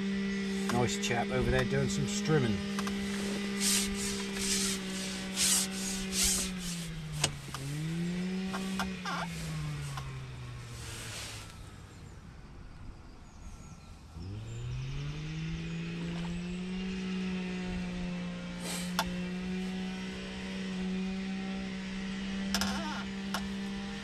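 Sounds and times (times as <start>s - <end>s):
strimmer engine revving: 0.0s - 12.0s, 14.1s - 24.0s.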